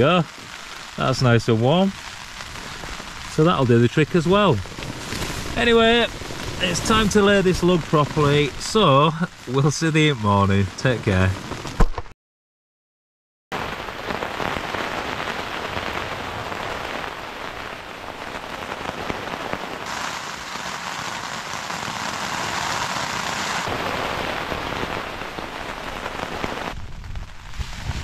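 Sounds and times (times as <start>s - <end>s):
rain pattering on a tent: 0.0s - 11.8s, 13.5s - 28.0s.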